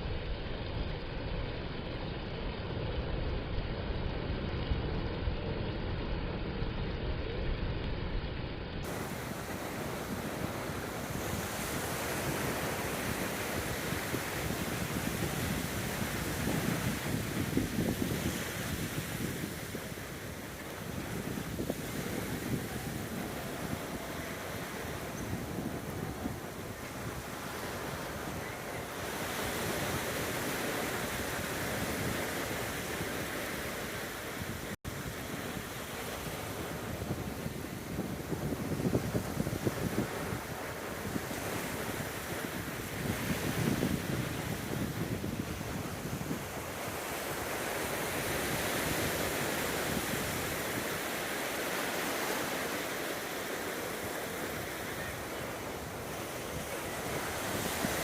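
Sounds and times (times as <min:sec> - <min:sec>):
ocean waves washing onto beach: 0:00.0 - 0:58.0
wind on microphone: 0:08.8 - 0:58.0.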